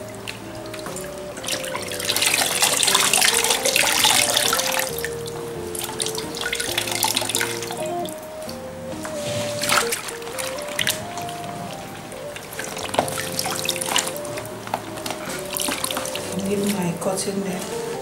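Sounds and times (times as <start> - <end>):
slow background music: 0.0 - 18.0
water sloshing and splashing: 0.0 - 18.0.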